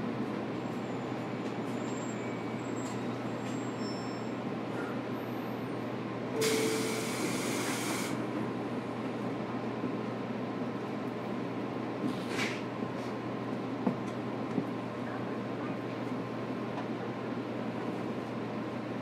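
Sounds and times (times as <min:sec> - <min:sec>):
electric train interior noise: 0:00.0 - 0:19.0.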